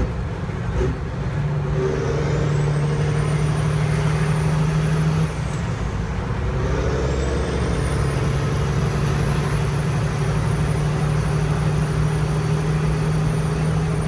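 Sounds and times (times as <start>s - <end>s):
diesel engine drone: 0.0s - 14.0s
turbocharger whistling: 1.7s - 5.6s, 6.6s - 14.0s.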